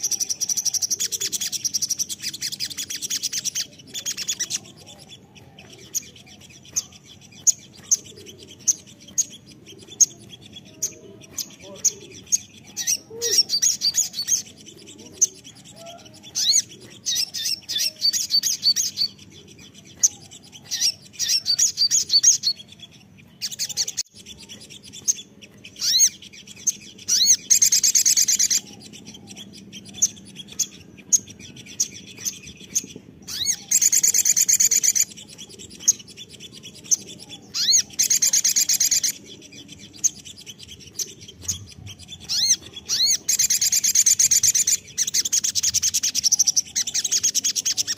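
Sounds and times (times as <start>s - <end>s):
bird chirping and trilling: 0.0s - 47.9s.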